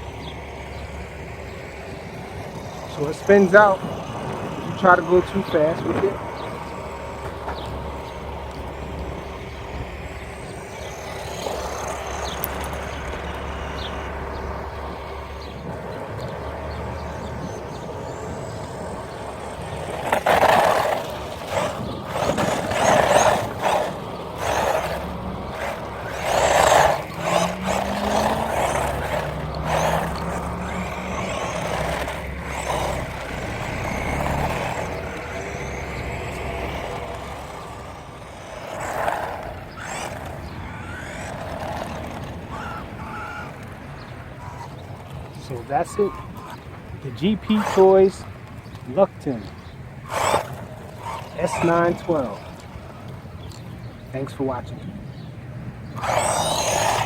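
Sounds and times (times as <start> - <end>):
background noise: 0.0 - 57.0
rc car electric motor whine: 0.0 - 57.0.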